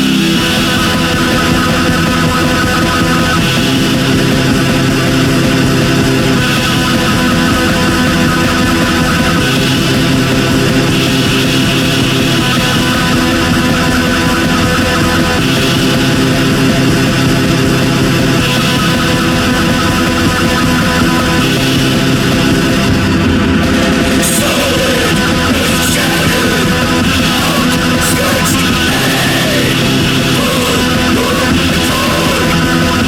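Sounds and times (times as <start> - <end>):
distorted metal music: 0.0 - 33.0.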